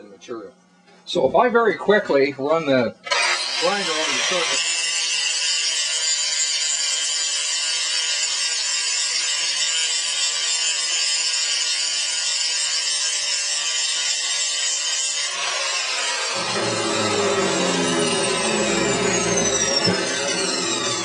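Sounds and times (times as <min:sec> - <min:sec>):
angle grinder grinding metal: 0:03.0 - 0:21.0.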